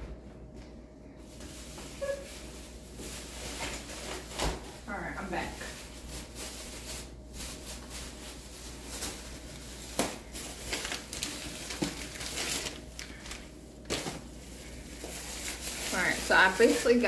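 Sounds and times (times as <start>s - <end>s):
plastic bag crinkling: 1.2s - 17.0s.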